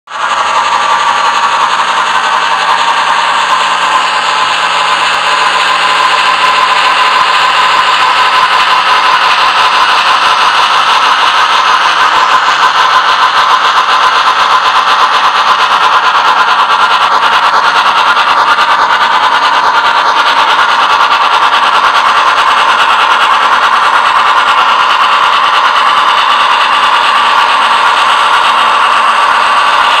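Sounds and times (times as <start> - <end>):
model train whirring hiss: 0.1 - 30.0
steam chuffing through small speaker: 0.1 - 30.0.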